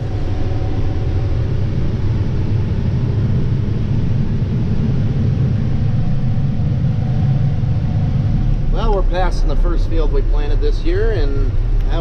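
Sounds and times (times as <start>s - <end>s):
road noise: 0.0s - 3.1s, 4.0s - 12.0s
tractor diesel engine drone: 0.0s - 12.0s.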